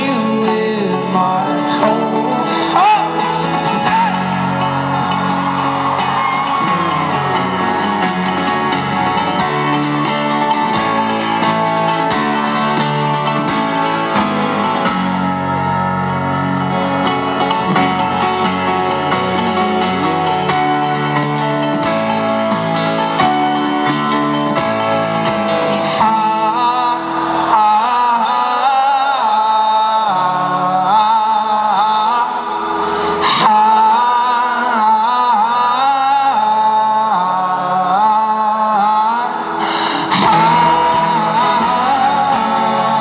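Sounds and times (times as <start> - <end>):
live band playing guitars: 0.0 - 43.0.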